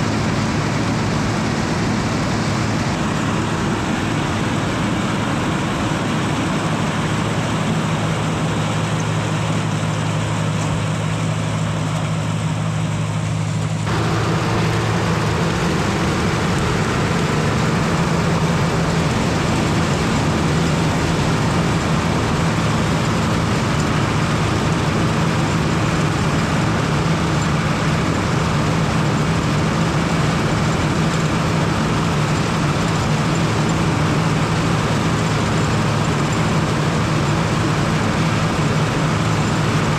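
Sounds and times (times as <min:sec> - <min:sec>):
corn picker machine noise: 0:00.0 - 0:39.9
tractor engine running under load: 0:00.0 - 0:39.9.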